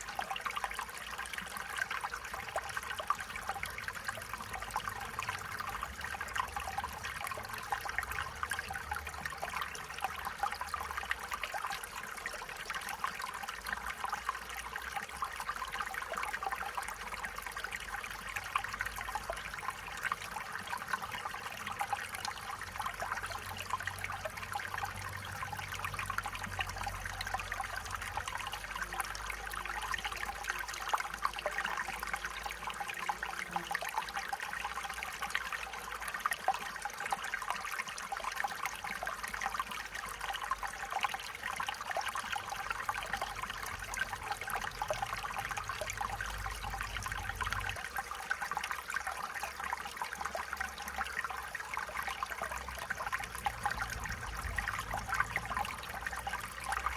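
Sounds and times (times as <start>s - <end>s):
stream water trickling: 0.0s - 56.9s.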